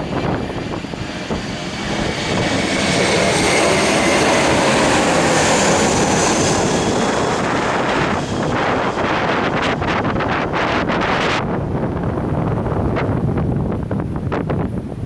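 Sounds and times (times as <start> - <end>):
high engine whine: 0.0 - 14.0
jet airliner passing overhead: 0.0 - 15.0.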